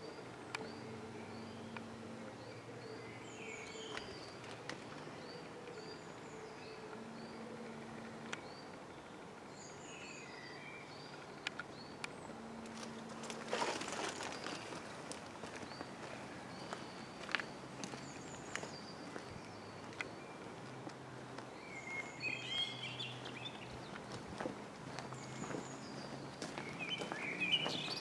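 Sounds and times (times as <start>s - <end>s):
small birds chirping: 0.0s - 28.0s
steady background noise: 0.0s - 28.0s.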